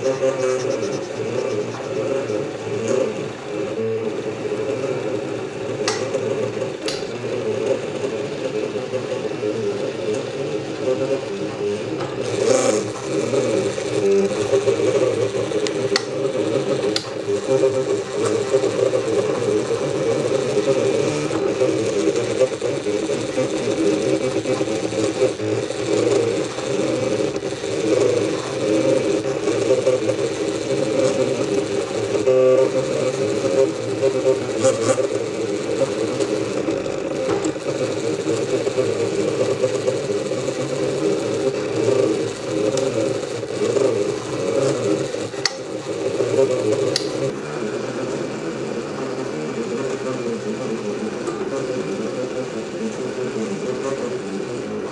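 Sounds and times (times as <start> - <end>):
stepper motors whirring: 0.0 - 47.4.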